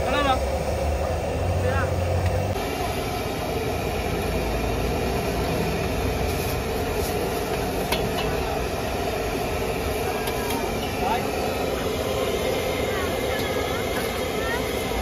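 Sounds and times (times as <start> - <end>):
market stall rumble and hiss: 0.0 - 15.0.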